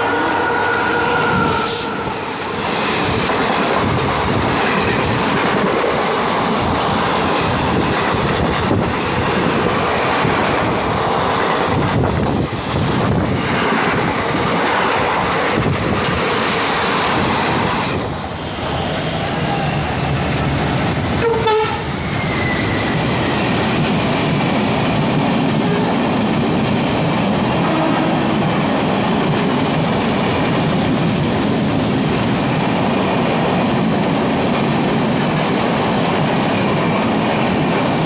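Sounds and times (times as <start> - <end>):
train coaches rushing past: 0.0 - 38.0.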